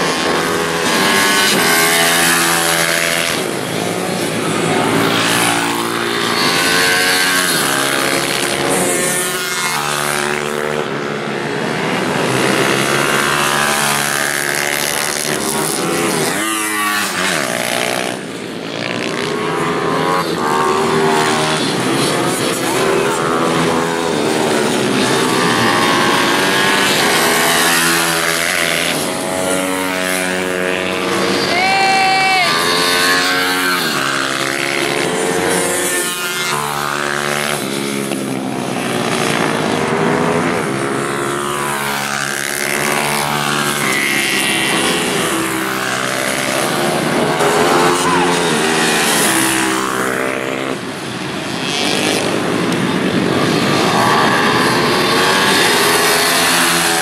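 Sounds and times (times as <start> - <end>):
small motorbikes racing at full throttle: 0.0 - 57.0.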